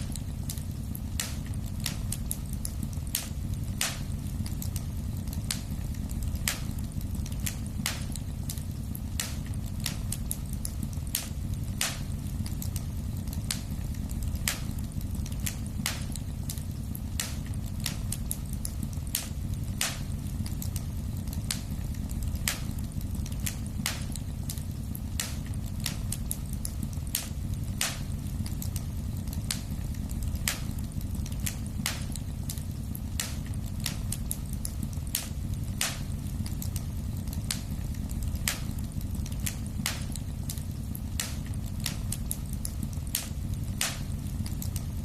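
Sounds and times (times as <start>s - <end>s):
fireplace fire crackling: 0.0s - 45.0s
steady low rumble: 0.0s - 45.0s.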